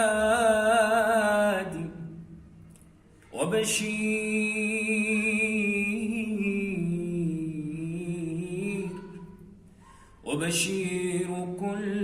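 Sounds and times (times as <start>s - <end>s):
man singing unaccompanied: 0.0s - 2.2s, 3.4s - 9.2s, 10.2s - 12.0s.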